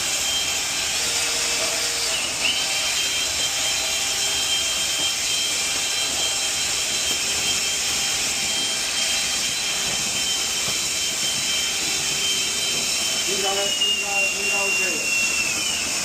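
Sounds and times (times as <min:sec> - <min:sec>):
drain-cleaning machine motor: 0:00.0 - 0:16.0
high-pitched whine: 0:00.0 - 0:16.0.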